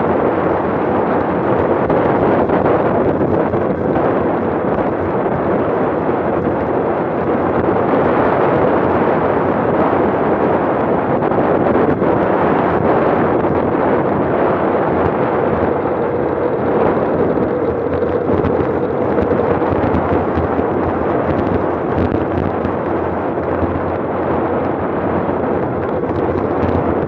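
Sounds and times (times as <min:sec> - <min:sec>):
wind buffeting on microphone: 0:00.0 - 0:27.0.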